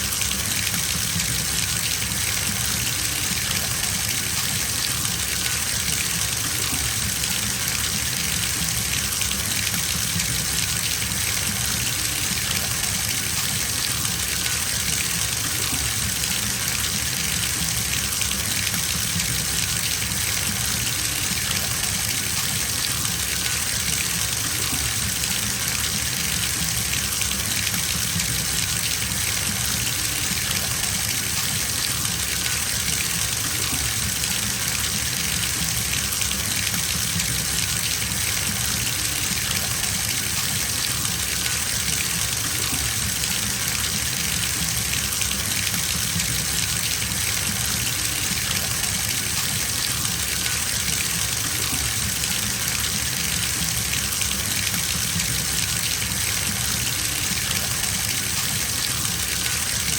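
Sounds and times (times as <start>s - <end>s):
tap water filling bathtub: 0.0s - 59.9s.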